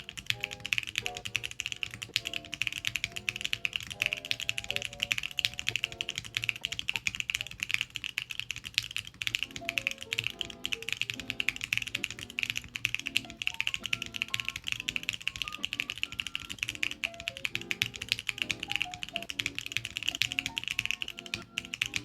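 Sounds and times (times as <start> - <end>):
mechanical keyboard typing: 0.0 - 22.0
soft background music: 0.0 - 22.0.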